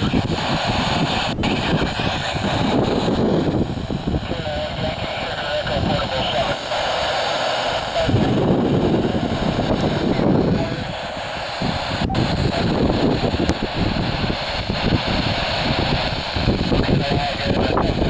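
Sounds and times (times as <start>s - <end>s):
radio static hissing: 0.0s - 18.0s.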